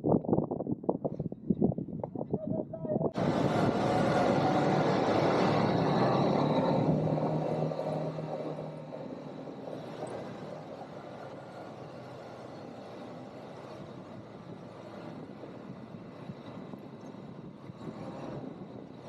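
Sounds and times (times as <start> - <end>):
quad bike engines running: 3.2 - 19.0.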